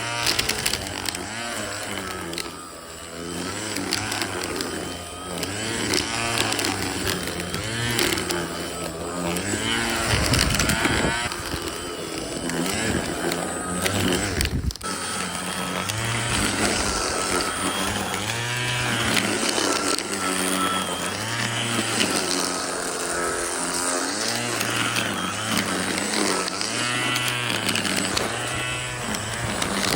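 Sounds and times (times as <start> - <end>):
string trimmer motor running: 0.0 - 29.9.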